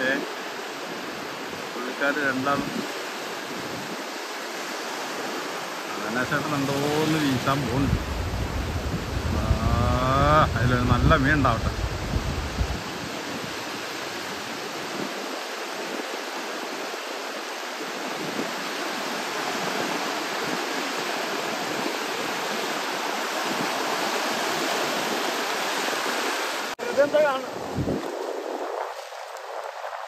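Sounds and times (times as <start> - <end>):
sea surf breaking: 0.0 - 30.0.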